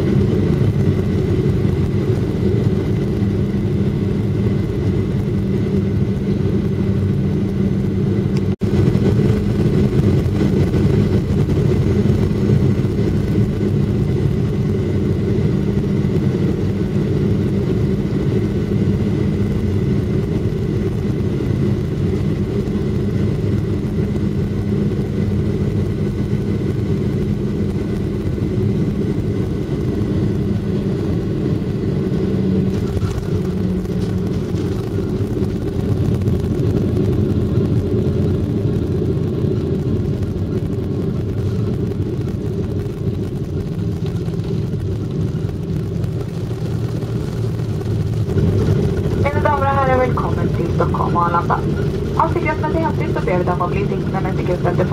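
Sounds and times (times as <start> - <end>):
airliner engines rumbling in cabin: 0.0 - 54.9
constant hum: 0.0 - 54.9.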